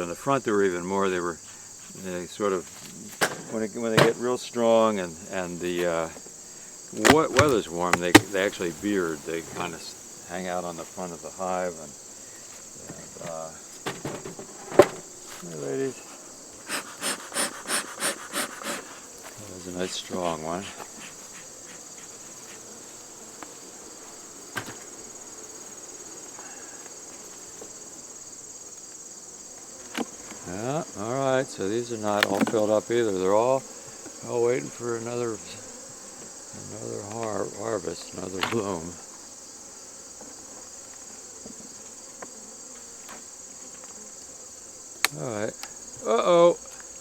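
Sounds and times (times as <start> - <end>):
insects trilling: 0.0 - 47.0
honeybees buzzing: 0.2 - 47.0.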